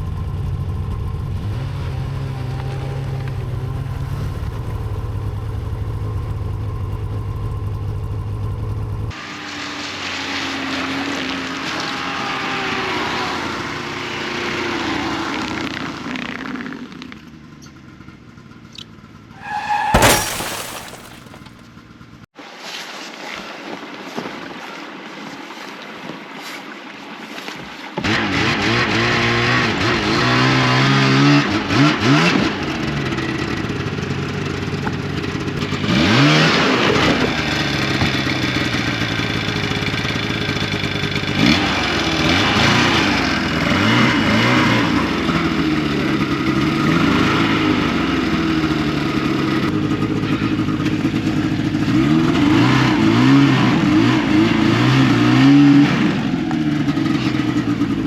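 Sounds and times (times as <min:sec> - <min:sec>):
wind: 0:00.0 - 0:13.0, 0:15.4 - 0:21.7, 0:22.4 - 0:33.1, 0:33.7 - 0:58.0.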